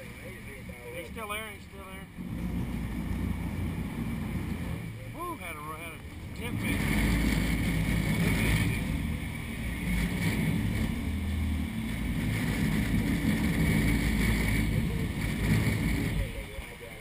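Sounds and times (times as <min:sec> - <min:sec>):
boat engines rumbling: 0:00.0 - 0:17.0
water rushing along hull: 0:00.0 - 0:17.0.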